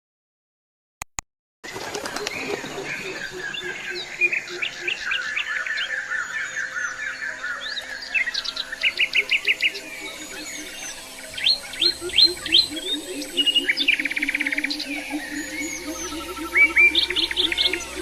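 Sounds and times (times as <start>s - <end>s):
bird trill: 1.7s - 18.0s
birds chirping and singing: 1.7s - 18.0s.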